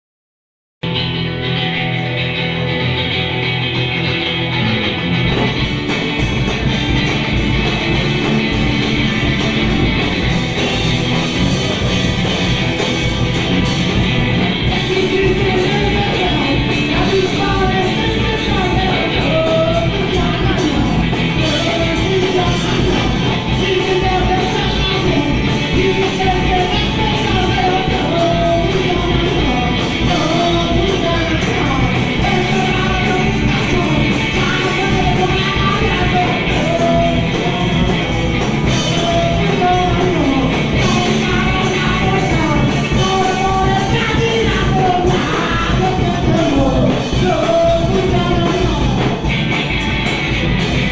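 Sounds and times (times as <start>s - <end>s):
punk rock band playing: 0.8s - 50.9s.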